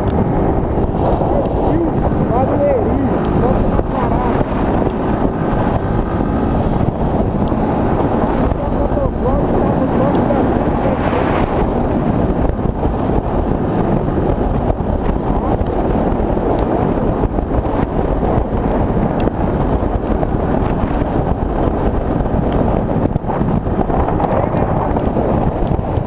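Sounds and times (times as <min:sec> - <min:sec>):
motorcycle engine running: 0:00.0 - 0:26.0
tyres on road: 0:00.0 - 0:26.0
wind noise on microphone: 0:00.0 - 0:26.0.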